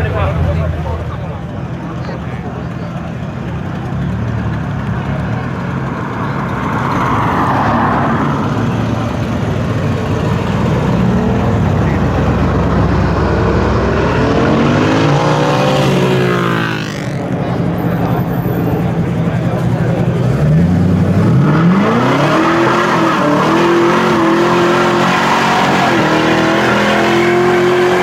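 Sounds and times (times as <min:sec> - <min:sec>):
car engine rumbling and revving: 0:00.0 - 0:28.0.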